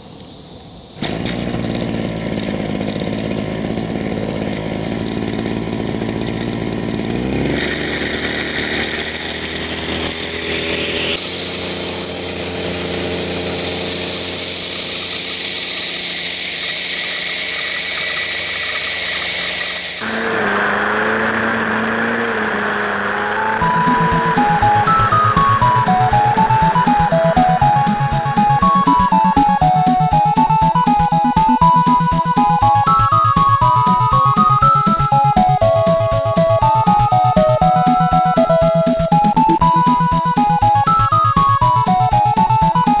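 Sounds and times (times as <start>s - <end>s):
brush cutter engine revving: 1.0s - 43.0s.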